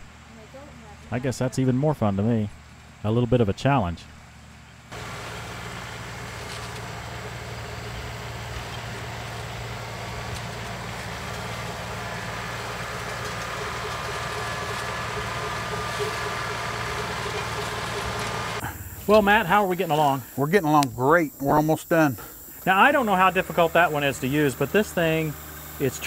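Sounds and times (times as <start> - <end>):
tractor diesel engine running: 4.1 - 26.0.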